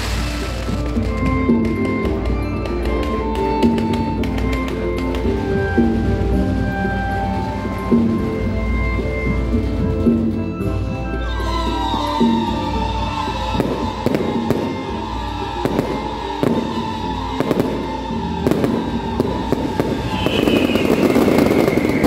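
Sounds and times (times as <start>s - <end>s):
fireworks bangs: 0.0s - 9.0s, 12.2s - 22.0s
fireworks crackling: 0.0s - 22.0s.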